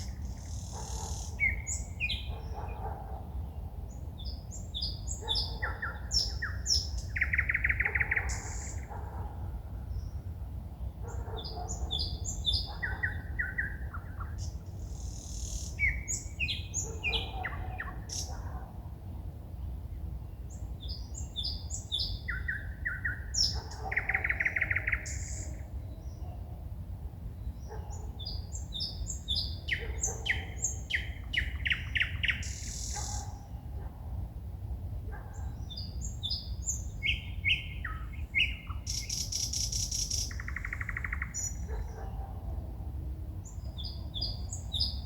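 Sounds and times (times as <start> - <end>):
songbird singing: 0.0 - 45.0.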